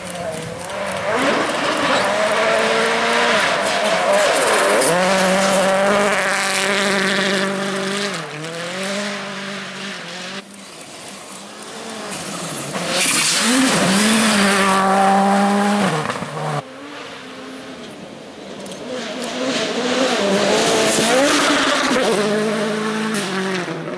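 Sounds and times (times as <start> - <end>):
rally car engines revving: 0.0 - 23.9.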